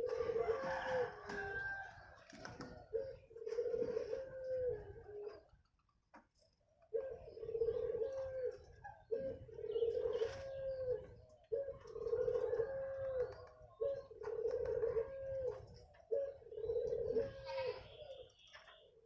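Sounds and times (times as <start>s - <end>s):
dove cooing: 0.0s - 5.7s, 6.8s - 18.9s.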